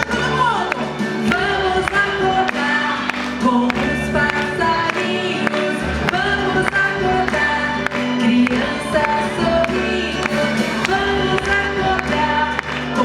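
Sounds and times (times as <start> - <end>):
instrumental backing with beat: 0.0 - 13.0.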